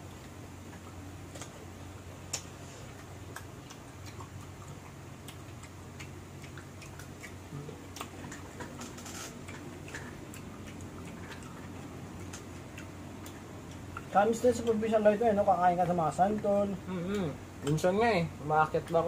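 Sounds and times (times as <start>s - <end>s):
steady low hum: 0.0s - 19.0s
mango crunching being chewed: 2.3s - 17.8s.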